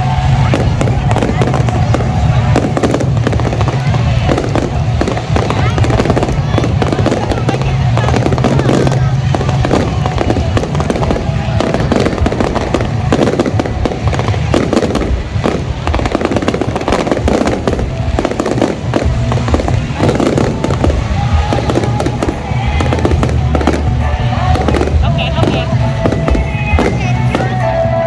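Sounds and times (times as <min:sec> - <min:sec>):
fireworks bursting and crackling: 0:00.0 - 0:28.0.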